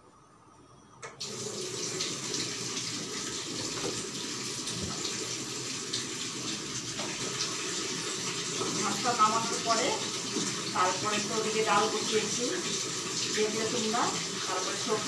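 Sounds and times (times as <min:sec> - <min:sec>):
water running into sink: 0:01.2 - 0:15.0.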